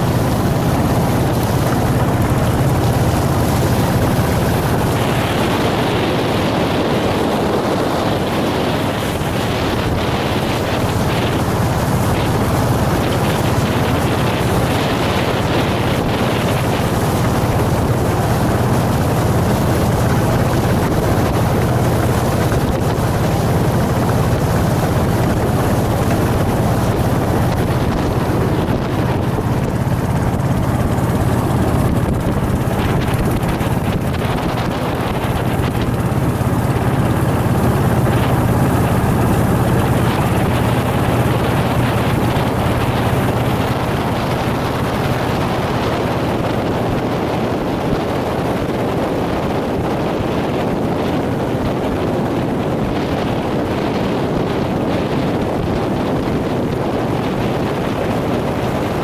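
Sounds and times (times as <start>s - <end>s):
motorboat engine droning: 0.0s - 59.0s
wind buffeting microphone: 0.0s - 59.0s.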